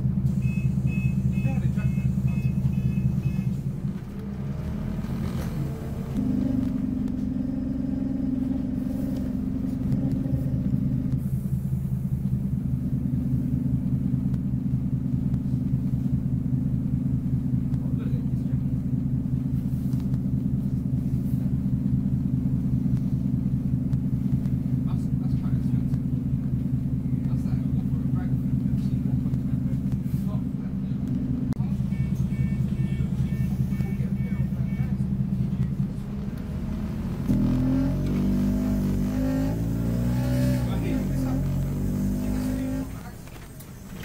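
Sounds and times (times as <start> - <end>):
bus diesel engine: 0.0 - 44.0.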